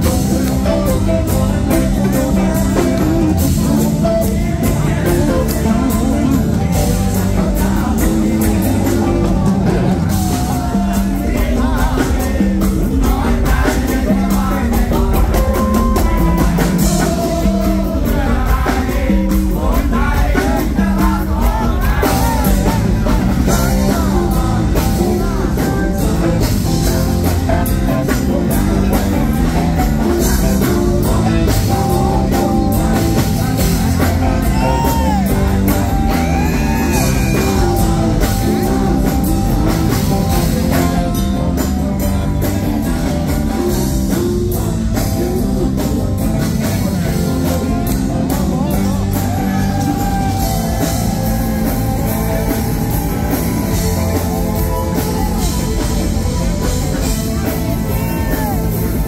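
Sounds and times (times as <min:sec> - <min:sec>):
man singing lead vocals: 0:00.0 - 0:59.0
rock band playing loud: 0:00.0 - 0:59.0.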